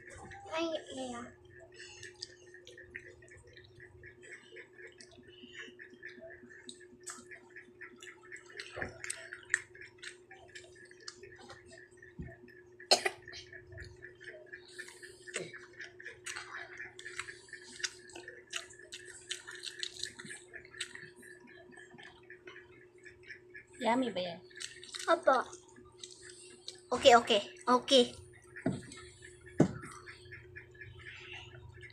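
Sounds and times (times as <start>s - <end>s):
chewing and eating with hands: 0.0s - 23.8s, 24.4s - 31.9s
steady hum: 0.0s - 31.9s.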